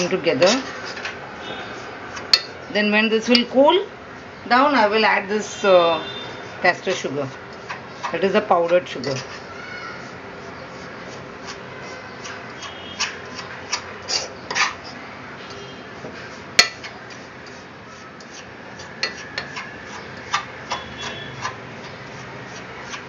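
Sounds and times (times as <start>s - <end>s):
spoon scraping in pan: 0.0s - 3.6s, 4.2s - 23.0s.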